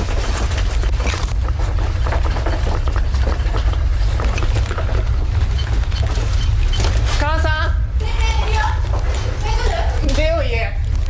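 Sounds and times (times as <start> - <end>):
deep earthquake rumble: 0.0 - 11.0
loose objects rattling: 0.0 - 11.0.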